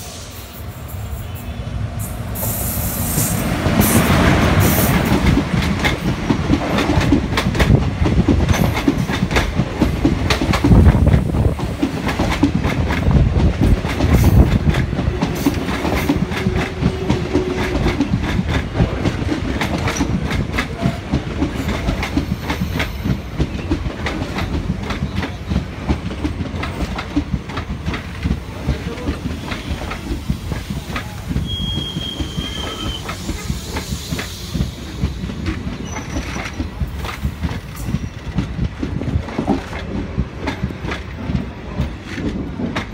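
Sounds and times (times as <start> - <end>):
train wheels clattering: 2.4 - 42.9.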